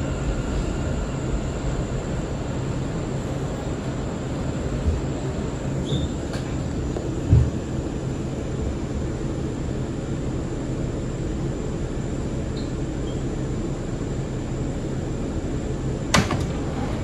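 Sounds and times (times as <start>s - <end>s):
subway train rumbling on track: 0.0s - 17.0s.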